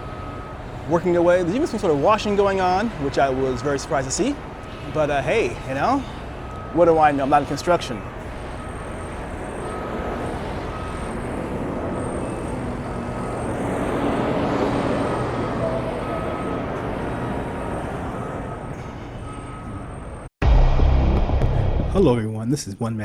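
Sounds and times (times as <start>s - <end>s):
traffic noise: 0.0s - 20.3s
vehicle engine rumble: 0.0s - 22.2s.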